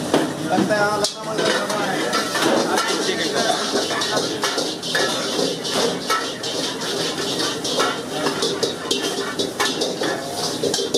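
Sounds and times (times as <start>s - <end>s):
metal spatula scraping pan: 1.4s - 10.9s.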